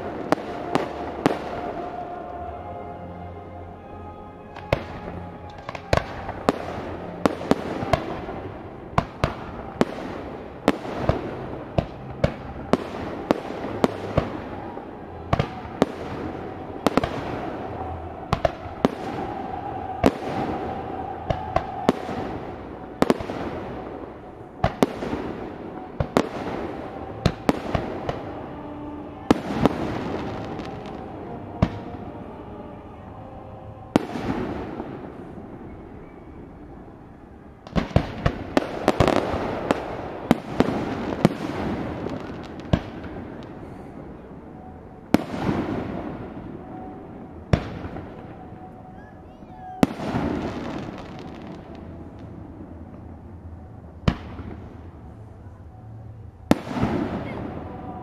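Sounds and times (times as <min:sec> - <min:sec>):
hiss and crackle of fireworks: 0:00.0 - 0:02.3, 0:04.6 - 0:32.2, 0:33.9 - 0:36.8, 0:37.6 - 0:53.2, 0:54.0 - 0:58.0
music: 0:00.0 - 0:58.0.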